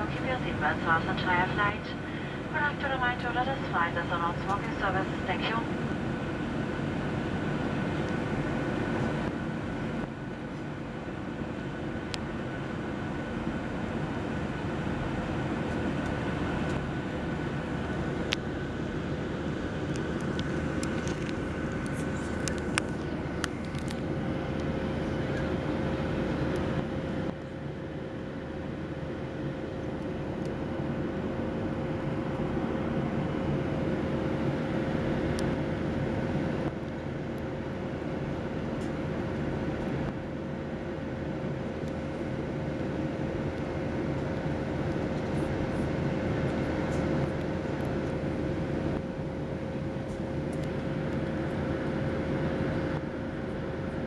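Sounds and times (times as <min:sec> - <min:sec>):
jet engines droning: 0:00.0 - 0:54.0
mid-pitched hum tone: 0:00.0 - 0:54.0.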